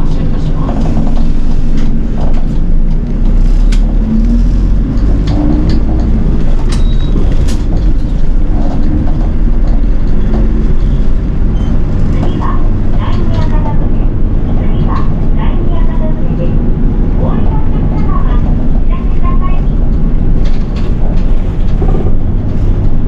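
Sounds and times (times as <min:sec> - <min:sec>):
bus engine and road rumble: 0:00.0 - 0:23.0
sharp rattles and clicks: 0:00.1 - 0:15.3, 0:17.5 - 0:23.0.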